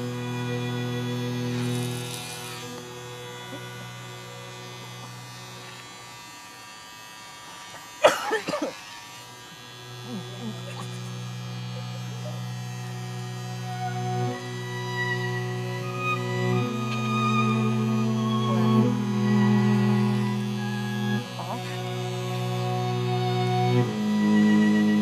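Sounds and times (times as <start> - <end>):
electric hair clippers buzzing: 0.0 - 25.0.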